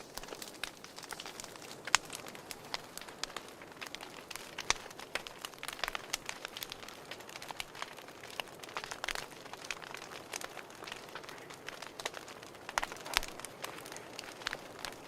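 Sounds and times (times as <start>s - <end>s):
soft steady hiss: 0.0s - 15.0s
wood fire crackling: 0.0s - 15.0s.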